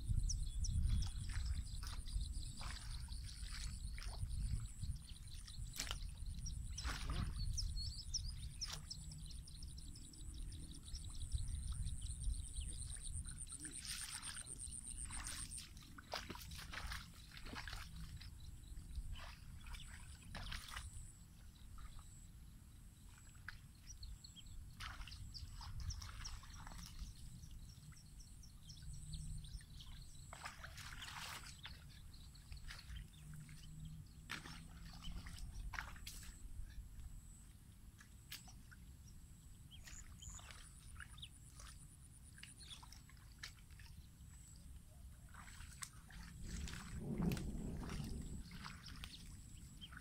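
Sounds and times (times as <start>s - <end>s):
muddy water sloshing: 0.7s - 22.3s, 23.0s - 50.0s.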